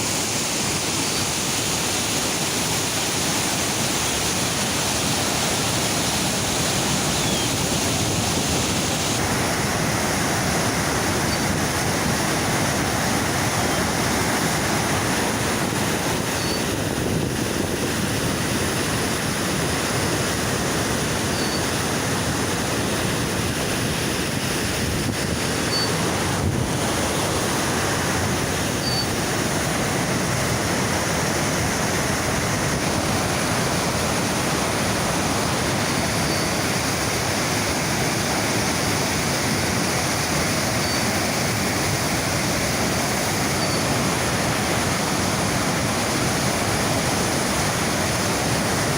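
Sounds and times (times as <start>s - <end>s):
river rapids roaring: 0.0s - 48.9s.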